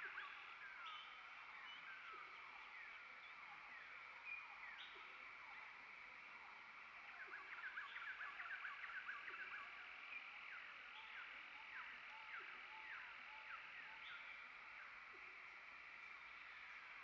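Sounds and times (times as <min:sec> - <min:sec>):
faint bird chirping: 0:00.0 - 0:17.0
steady background hiss: 0:00.0 - 0:17.0.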